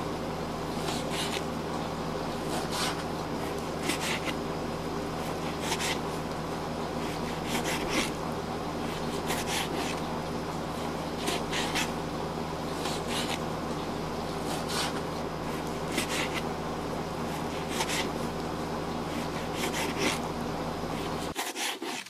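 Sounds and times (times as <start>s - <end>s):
steady low hum: 0.0s - 21.5s.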